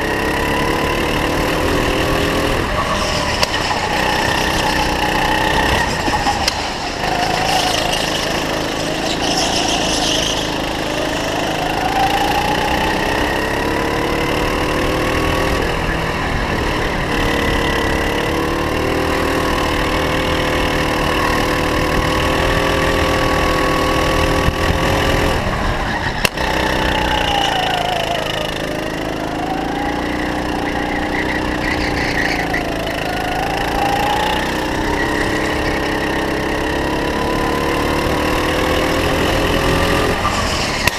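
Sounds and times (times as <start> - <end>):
go-kart engine under load: 0.0 - 40.9.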